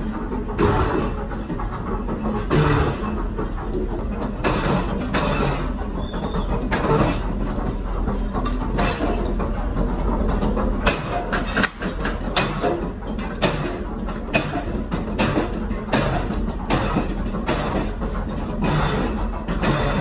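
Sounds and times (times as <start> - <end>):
sharp knocks and clanks: 0.0 - 20.0
workshop machinery humming: 0.0 - 20.0.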